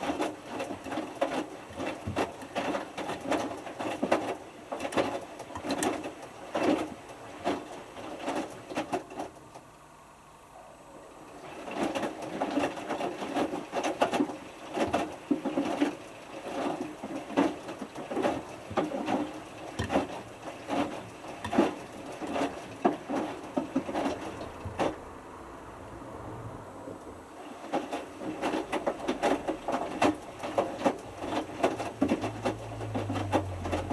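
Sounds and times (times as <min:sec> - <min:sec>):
washing machine drum tumbling: 0:00.0 - 0:09.5, 0:11.2 - 0:25.2, 0:26.9 - 0:33.9.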